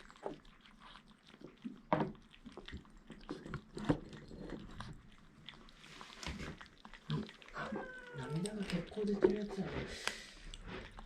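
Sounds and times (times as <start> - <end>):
kittens chewing: 0.0 - 11.0.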